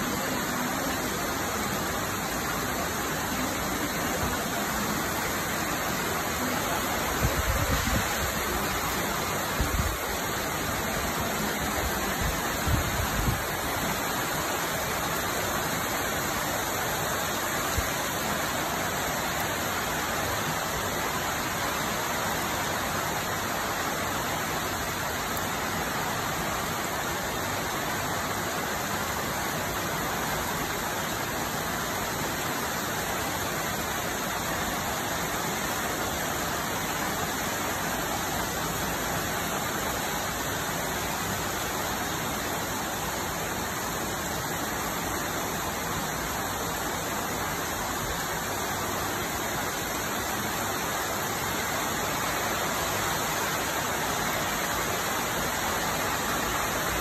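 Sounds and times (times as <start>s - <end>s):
heavy rain on trees and grass: 0.0s - 57.0s.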